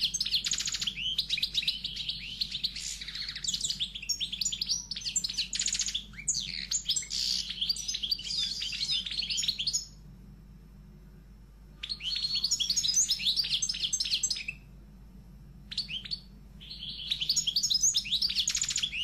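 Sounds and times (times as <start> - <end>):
small birds chirping and twittering: 0.0 - 10.0, 11.8 - 14.7, 15.7 - 19.0.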